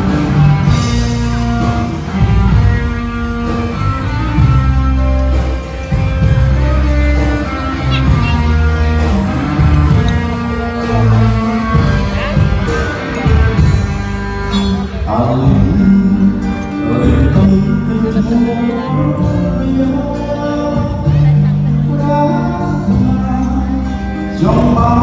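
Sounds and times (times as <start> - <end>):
guitar song with singing: 0.0 - 25.0.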